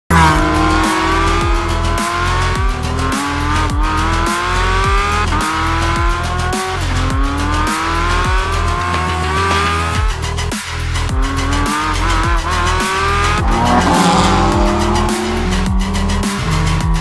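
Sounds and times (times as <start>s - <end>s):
car engine revving through gears: 0.1s - 17.0s
music with steady beat: 0.2s - 17.0s.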